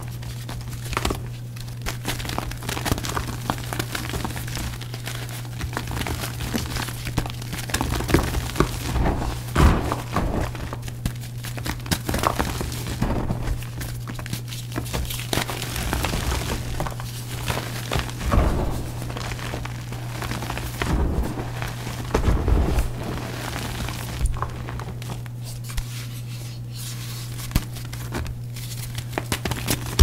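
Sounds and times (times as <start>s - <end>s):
chalk blocks crunching: 0.2s - 30.0s.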